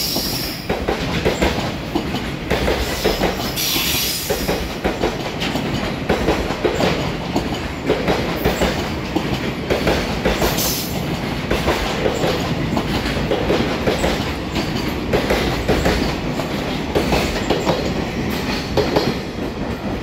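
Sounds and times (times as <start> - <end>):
freight train rumble: 0.0 - 20.0
train wheels clacking over rail joints: 0.0 - 20.0.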